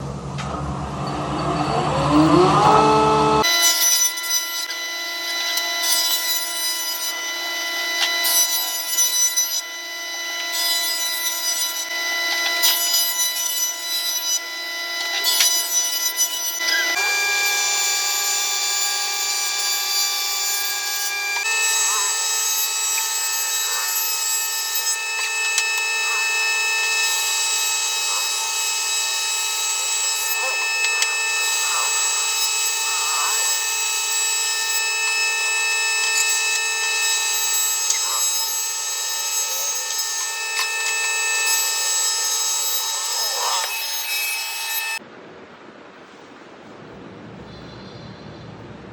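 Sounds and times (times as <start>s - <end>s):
power tool cutting wood: 0.0s - 45.0s.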